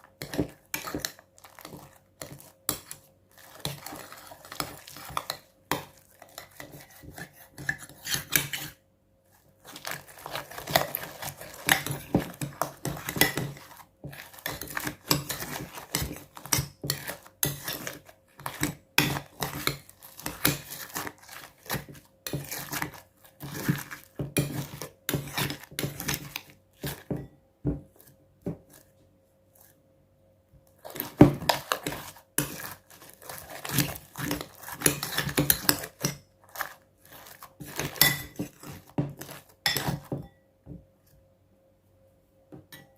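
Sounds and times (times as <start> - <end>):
utensil scraping and clinking bowl: 0.0 - 8.8, 9.6 - 27.3, 30.8 - 40.4.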